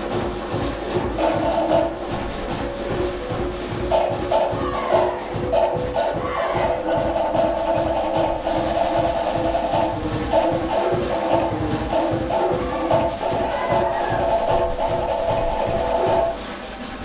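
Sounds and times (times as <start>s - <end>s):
drum ensemble fast rhythm: 0.0s - 17.0s
skin drum: 0.0s - 17.0s
strokes on wooden slit drums: 0.0s - 17.0s.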